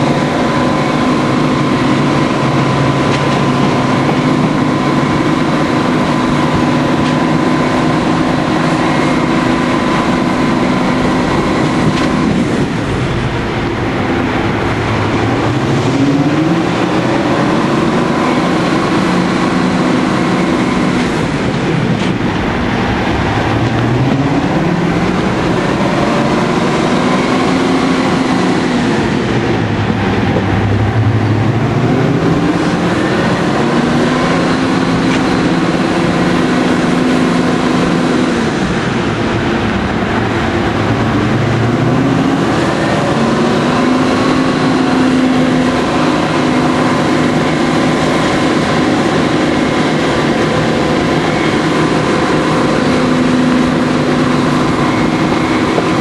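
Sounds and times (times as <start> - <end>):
locomotive engines working hard: 0.0 - 56.0.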